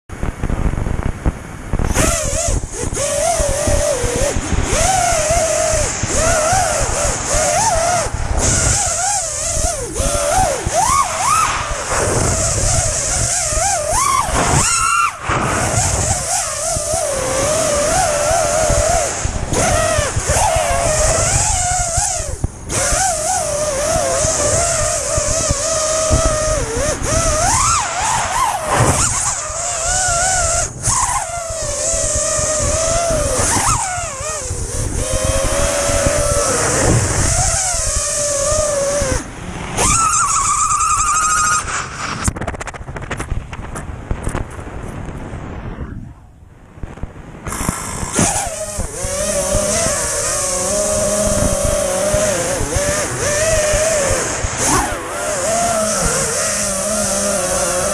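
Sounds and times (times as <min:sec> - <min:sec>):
wind rumble on microphone: 0:00.1 - 0:57.9
quadcopter motors whining: 0:01.7 - 0:44.5, 0:47.0 - 0:57.9.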